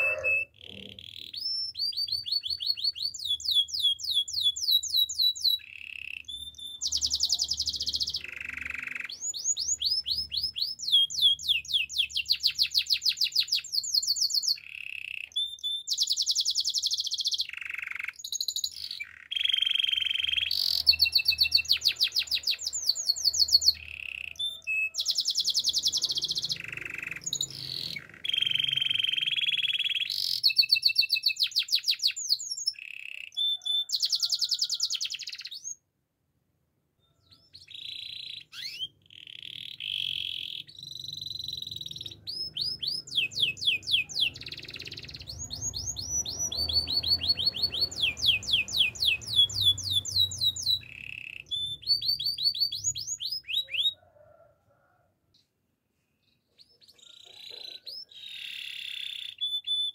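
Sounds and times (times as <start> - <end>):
canary singing fast trills: 0.0 - 35.9, 37.0 - 54.5, 56.2 - 59.9.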